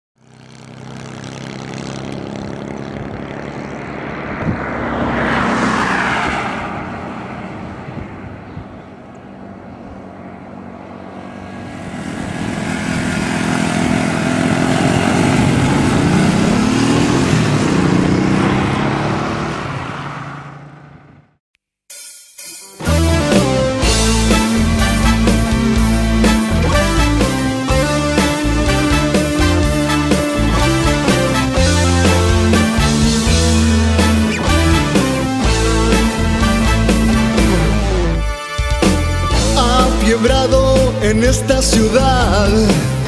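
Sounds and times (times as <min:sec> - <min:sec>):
engine revving: 0:00.2 - 0:08.4, 0:09.2 - 0:21.4, 0:22.8 - 0:43.0
vehicle passing by: 0:00.2 - 0:21.4, 0:22.8 - 0:40.2.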